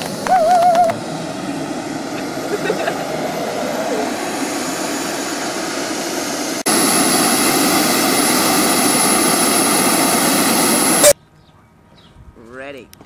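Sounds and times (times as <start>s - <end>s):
model jet engines rushing: 0.0s - 11.2s
thin high whine: 0.0s - 11.2s.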